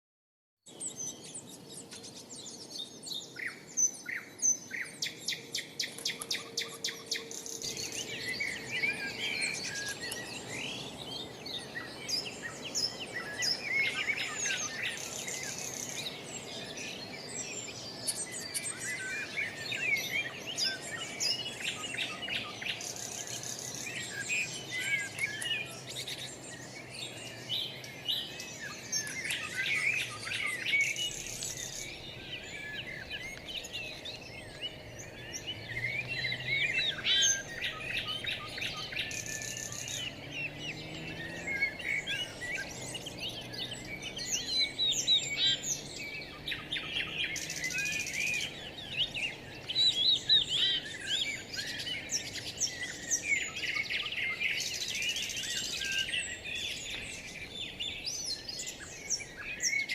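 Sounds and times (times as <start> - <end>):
songbirds chirping and singing: 0.7 - 59.9.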